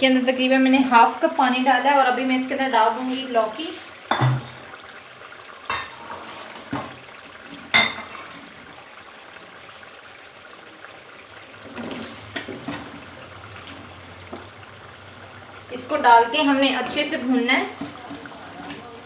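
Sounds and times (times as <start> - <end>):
sauce simmering and bubbling: 0.1 - 19.0.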